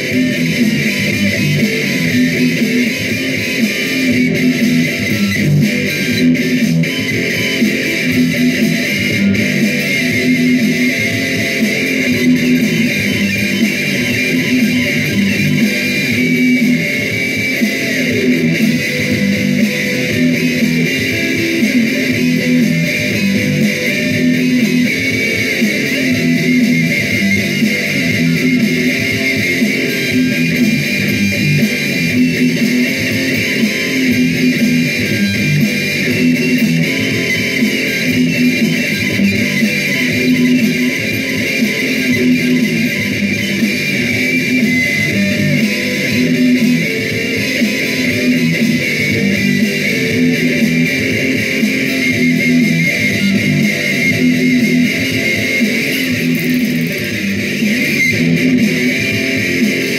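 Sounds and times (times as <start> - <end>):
electric guitar metal riffing: 0.0 - 59.9.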